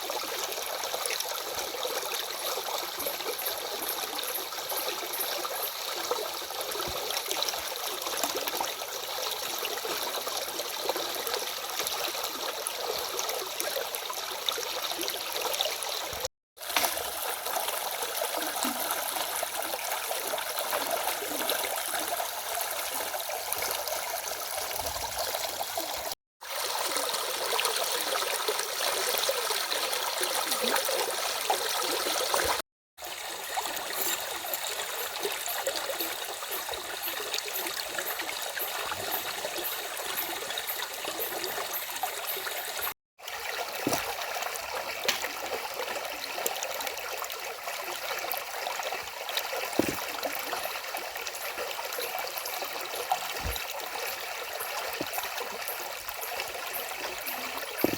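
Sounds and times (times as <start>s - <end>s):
stream trickling over cascades: 0.0s - 57.9s.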